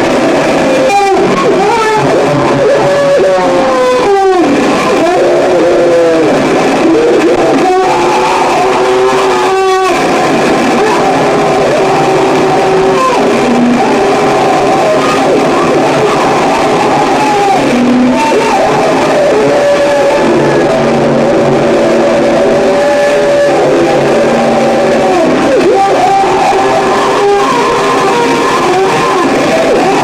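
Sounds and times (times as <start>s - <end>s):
distorted noise music hiss: 0.0s - 30.0s
feedback-like tones: 0.0s - 30.0s.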